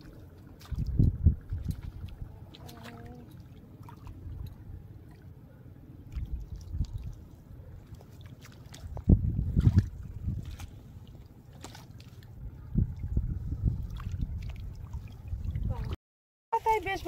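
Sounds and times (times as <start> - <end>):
river water sloshing: 0.0 - 16.0.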